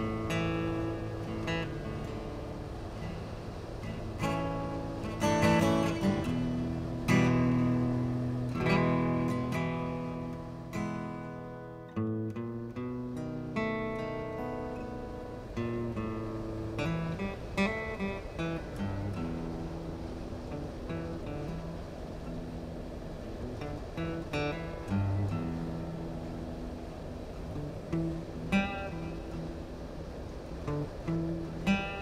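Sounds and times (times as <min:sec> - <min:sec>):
solo guitar: 0:00.0 - 0:32.0.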